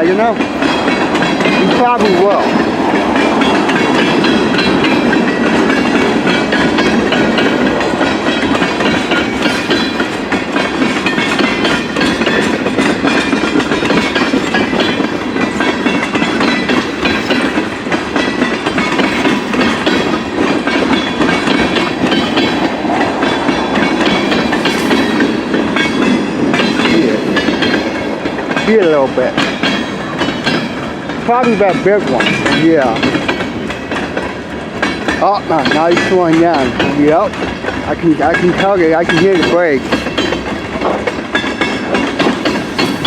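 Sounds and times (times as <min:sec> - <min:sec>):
freight train rumbling past: 0:00.0 - 0:43.0
wheels clattering over rail joints: 0:00.0 - 0:43.0.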